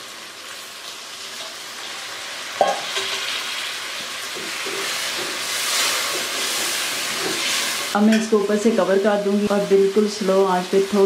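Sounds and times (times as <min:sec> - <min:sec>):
curry sizzling in a pot: 0:00.0 - 0:11.0.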